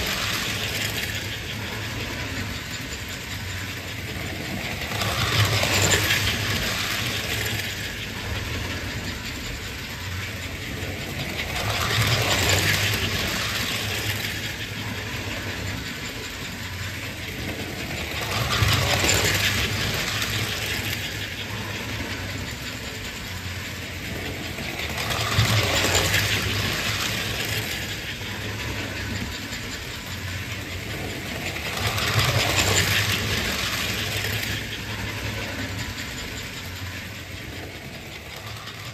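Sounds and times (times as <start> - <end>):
toy train motor hum: 0.0 - 38.9
wheels clattering on track: 0.0 - 38.9.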